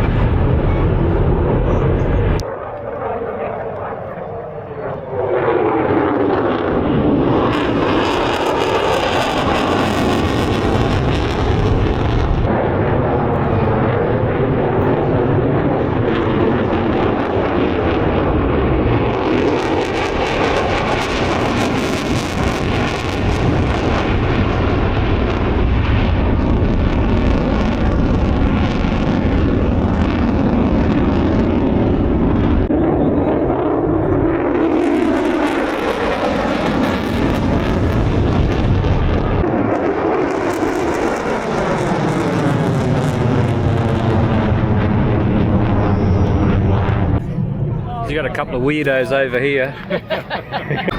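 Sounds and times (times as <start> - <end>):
jet aircraft flying past: 0.0 - 50.9.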